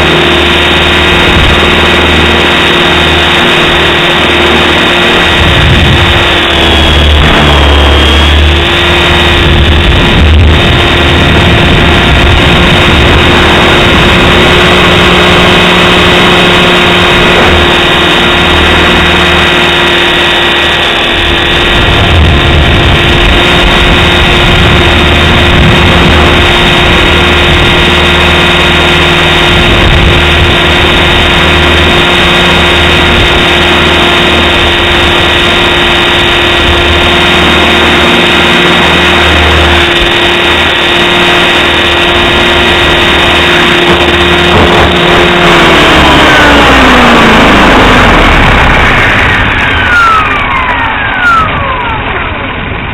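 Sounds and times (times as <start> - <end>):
rc helicopter rotor whine: 0.0 - 52.9
wind buffeting microphone: 0.0 - 52.9.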